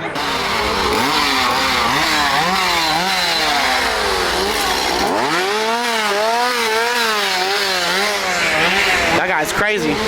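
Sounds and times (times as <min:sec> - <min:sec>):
chainsaw engine revving: 0:00.0 - 0:10.0.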